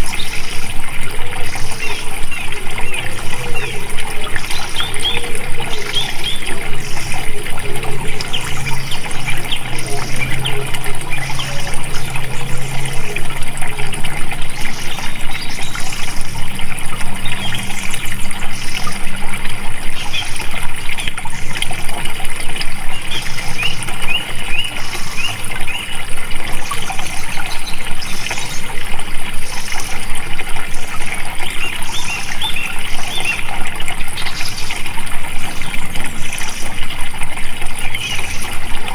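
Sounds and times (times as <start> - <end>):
birds chirping: 0.0 - 37.0, 37.6 - 38.9
water flowing: 0.0 - 38.9.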